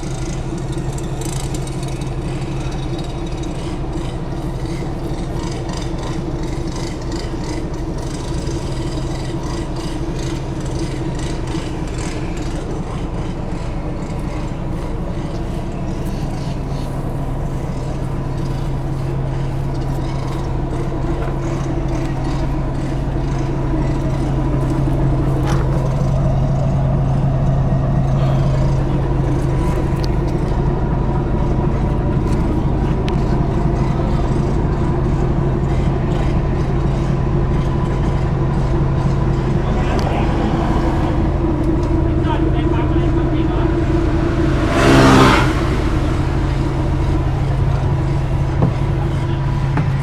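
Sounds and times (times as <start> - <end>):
bus engine rumbling: 0.0 - 50.0.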